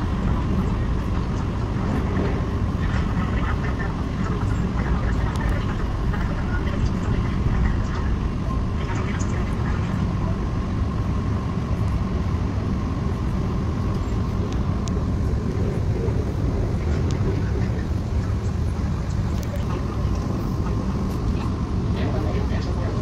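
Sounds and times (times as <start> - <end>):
moving vehicle rumble: 0.0 - 23.0.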